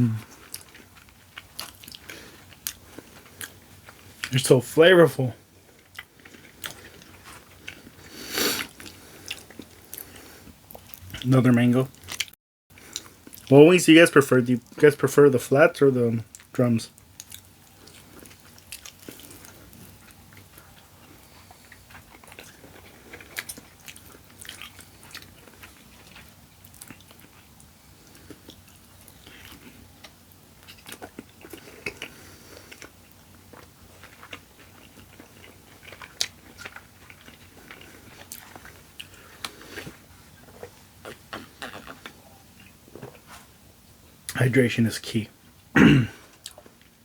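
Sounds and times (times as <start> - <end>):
person chewing chicken wings: 0.1 - 4.4, 5.6 - 11.2, 11.9 - 13.5, 16.3 - 43.4, 46.2 - 46.9.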